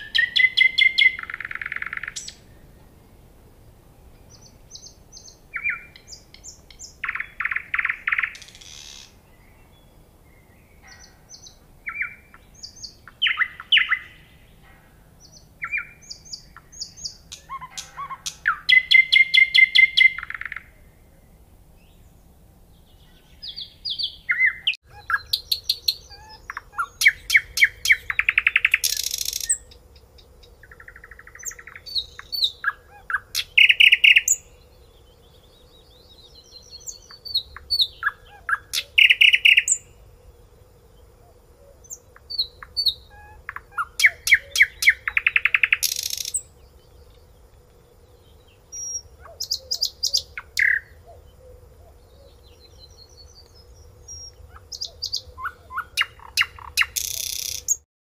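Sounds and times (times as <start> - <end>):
nightingale singing: 0.0 - 3.1, 4.1 - 40.0, 41.3 - 47.5, 48.1 - 57.8.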